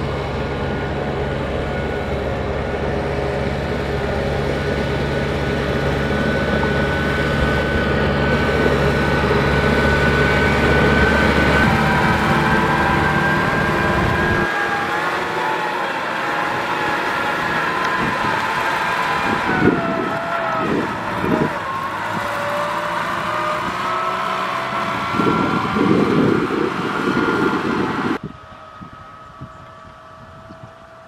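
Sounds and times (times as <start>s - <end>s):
low rumbles: 0.0s - 14.5s, 16.2s - 31.0s
tractor diesel engine under load: 0.0s - 31.0s.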